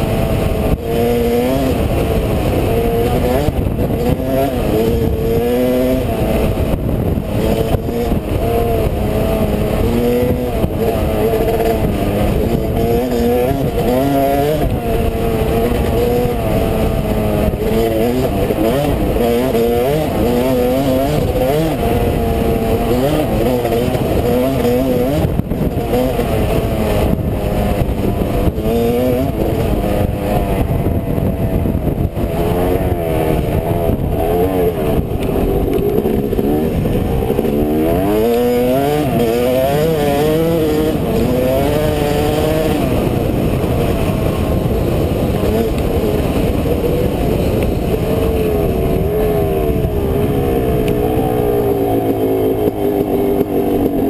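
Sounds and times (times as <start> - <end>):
dirt bike engine revving: 0.0 - 54.0
wind and tyre noise: 0.0 - 54.0.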